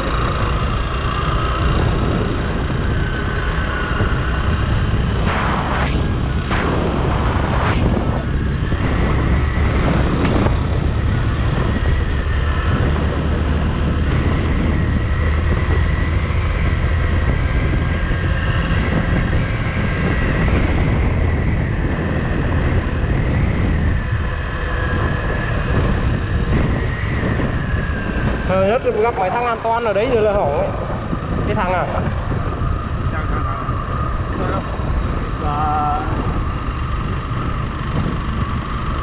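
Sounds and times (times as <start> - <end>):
motorcycle engine rumbling: 0.0 - 39.0
road and air noise: 0.0 - 39.0.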